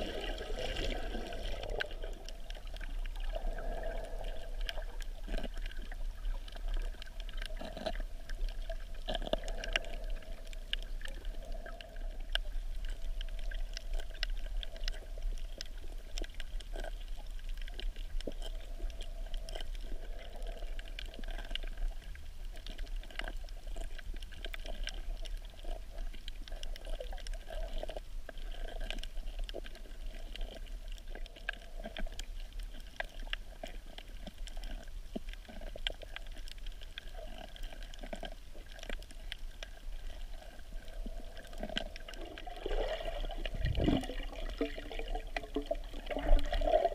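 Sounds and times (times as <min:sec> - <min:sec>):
underwater low rumble: 0:00.0 - 0:46.9.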